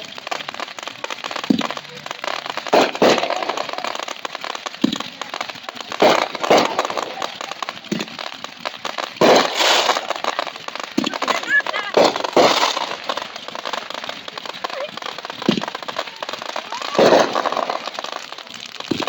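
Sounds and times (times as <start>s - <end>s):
fireworks banging: 0.0s - 19.0s
fireworks crackling: 0.0s - 19.0s.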